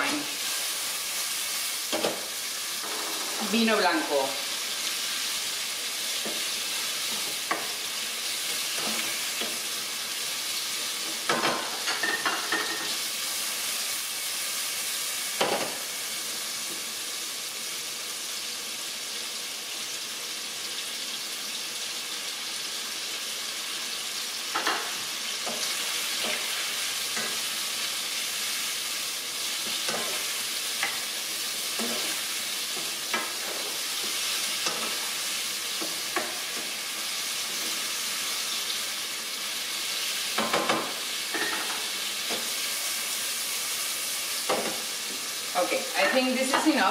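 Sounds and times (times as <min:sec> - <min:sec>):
shrimp sizzling in pan: 0:00.0 - 0:46.9.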